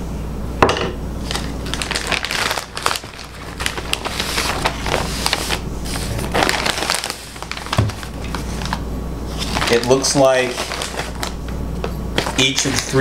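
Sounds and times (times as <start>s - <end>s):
plastic mailer bag crinkling: 1.2s - 13.0s.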